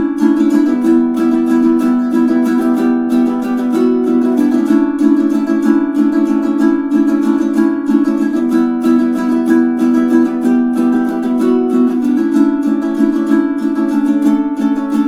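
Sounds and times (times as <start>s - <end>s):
ukulele strumming chords: 0.0s - 15.0s.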